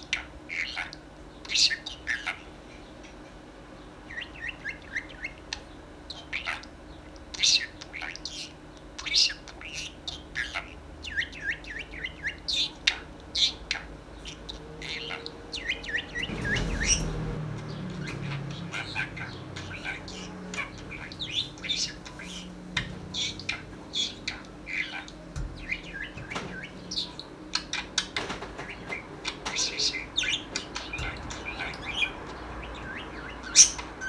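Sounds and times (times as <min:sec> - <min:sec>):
parrot chattering: 0:00.0 - 0:02.5, 0:04.1 - 0:17.1, 0:17.8 - 0:34.0.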